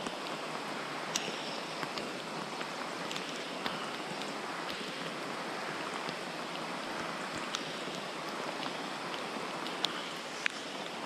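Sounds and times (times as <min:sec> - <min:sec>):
heavy rain on water: 0:00.0 - 0:11.0.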